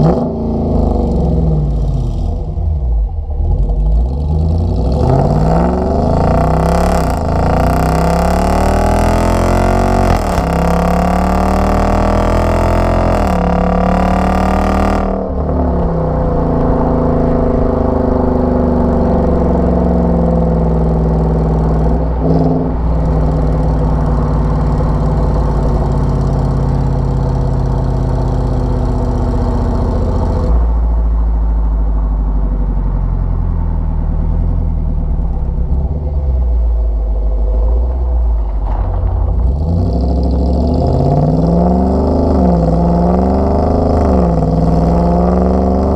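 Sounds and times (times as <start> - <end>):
engine revving: 0.0 - 30.8, 39.3 - 45.9.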